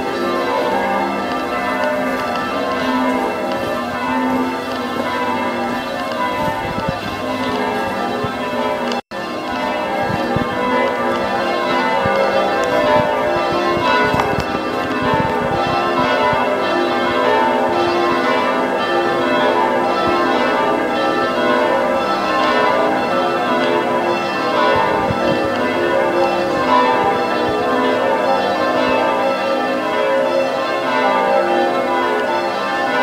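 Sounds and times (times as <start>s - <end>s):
church bells ringing: 0.0s - 33.0s.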